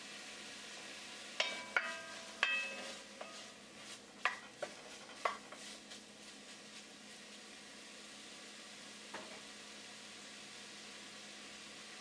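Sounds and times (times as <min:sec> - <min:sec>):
mushrooms sizzling: 0:00.0 - 0:12.0.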